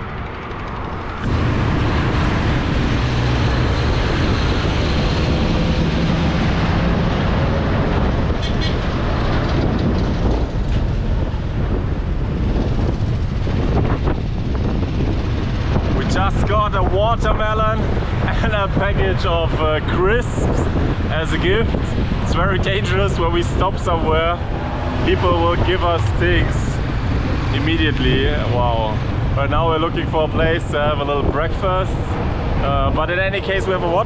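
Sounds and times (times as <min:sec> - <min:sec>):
heavy truck driving alongside: 0:00.0 - 0:34.0
traffic rumble of engines and tyres: 0:00.0 - 0:34.0.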